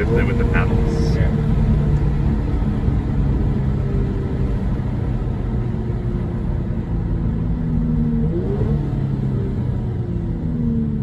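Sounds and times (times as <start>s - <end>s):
car exhaust drone: 0.0s - 11.0s
road noise: 0.0s - 11.0s.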